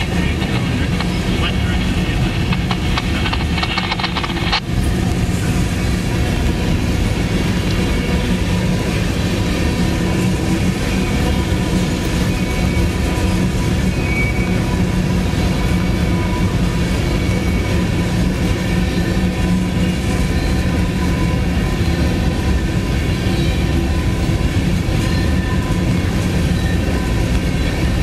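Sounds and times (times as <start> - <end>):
steel wheels on rail: 0.0 - 28.0.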